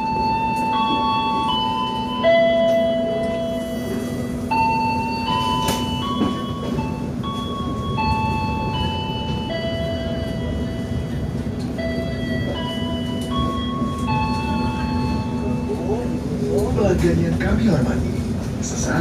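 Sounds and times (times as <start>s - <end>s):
rumble of moving train: 0.0s - 19.0s.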